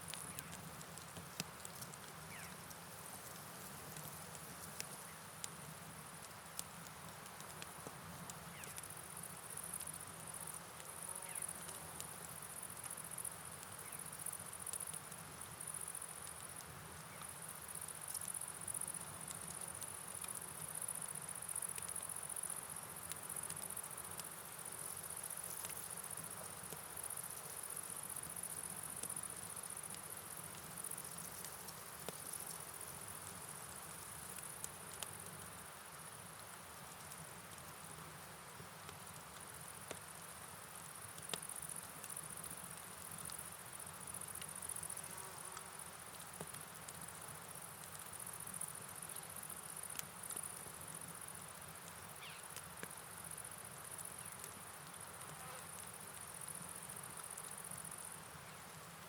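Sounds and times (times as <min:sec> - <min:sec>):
insects chirping: 0:00.0 - 0:05.3, 0:08.4 - 0:38.0, 0:38.6 - 0:59.0
faint ticks: 0:00.0 - 0:59.0
rain: 0:00.0 - 0:59.0.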